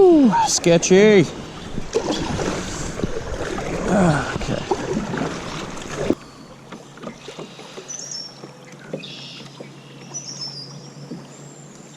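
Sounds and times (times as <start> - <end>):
river water rushing and splashing: 0.0 - 9.6
wind: 0.0 - 11.9.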